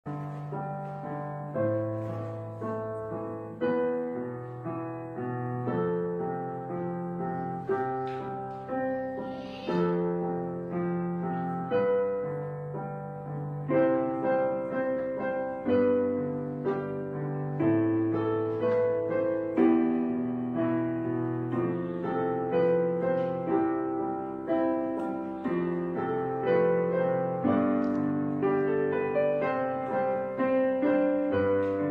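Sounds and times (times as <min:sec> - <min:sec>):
slow piano chords: 0:00.0 - 0:31.9.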